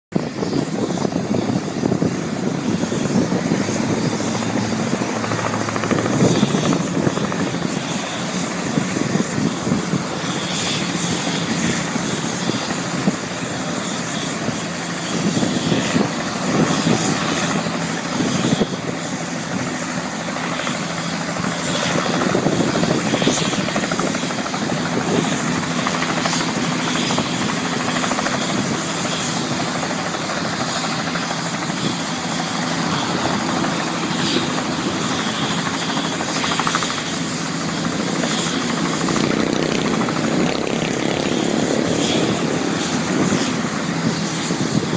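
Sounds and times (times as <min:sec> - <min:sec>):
helicopter rotor and engine: 0:00.1 - 0:44.9.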